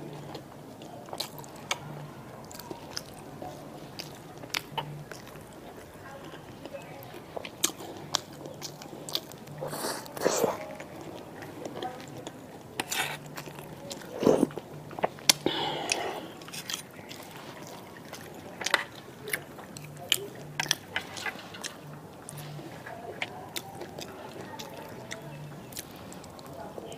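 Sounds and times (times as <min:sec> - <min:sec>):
biting and chewing food: 0:00.0 - 0:26.9.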